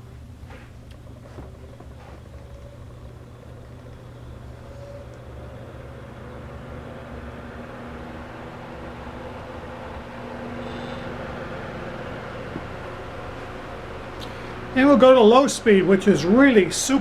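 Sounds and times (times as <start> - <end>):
air rushing from fan blades: 0.0 - 17.0
table fan motor humming: 0.0 - 17.0.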